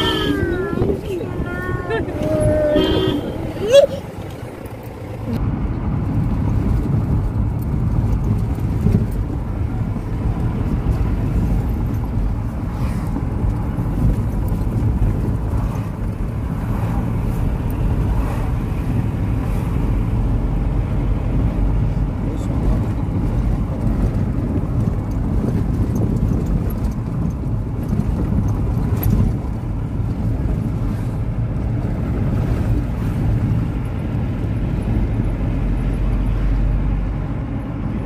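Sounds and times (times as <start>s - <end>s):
vehicle engine and road noise: 0.0s - 38.0s.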